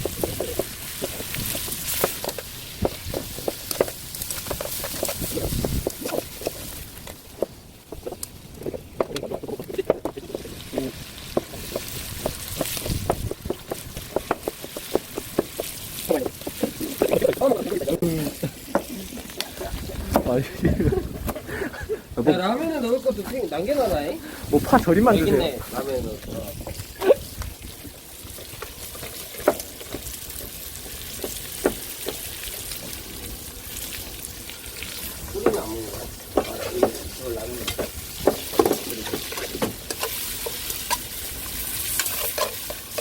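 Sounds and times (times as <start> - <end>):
meat sizzling in oil: 0.0 - 20.4, 22.4 - 43.0
food frying in a pan: 0.0 - 20.9, 22.2 - 43.0
oil popping: 0.0 - 21.5, 24.5 - 43.0.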